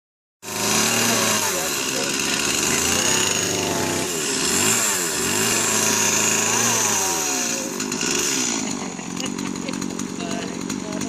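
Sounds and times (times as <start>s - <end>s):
chainsaw engine revving: 0.4s - 11.0s.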